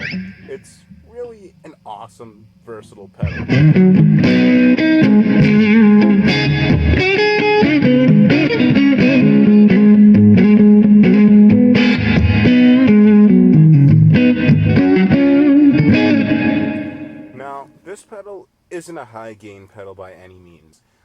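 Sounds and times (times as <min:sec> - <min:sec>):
electric guitar crunch tone: 0:00.0 - 0:17.9.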